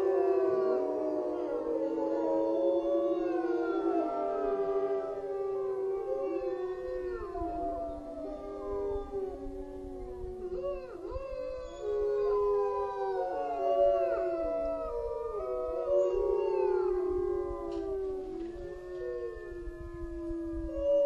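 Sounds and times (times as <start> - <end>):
chorus of howling: 0.0 - 21.0.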